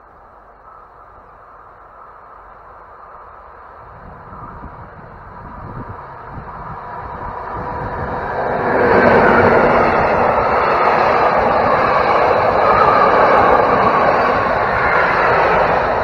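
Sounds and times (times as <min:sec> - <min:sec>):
diesel locomotive passing: 0:00.0 - 0:16.0
train wheels rolling on rails: 0:00.0 - 0:16.0.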